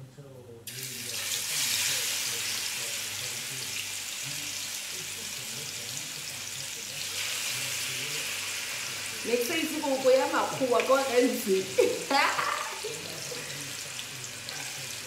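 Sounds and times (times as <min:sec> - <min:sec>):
food sizzling in hot oil: 0:00.7 - 0:15.0.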